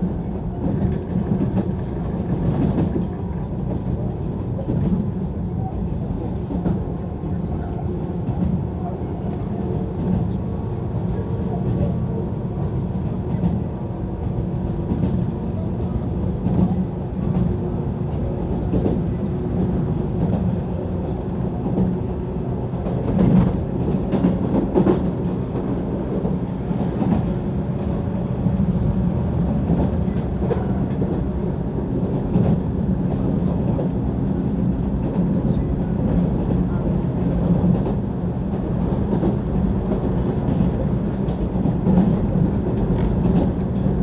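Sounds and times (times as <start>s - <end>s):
train interior rumble: 0.0s - 44.0s.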